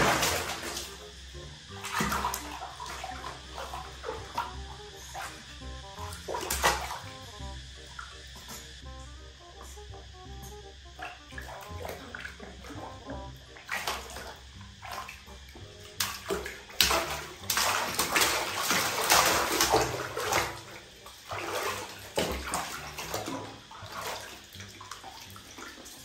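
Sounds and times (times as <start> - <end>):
water splashing in plastic tub: 0.0 - 1.0, 1.7 - 7.3, 11.0 - 26.0.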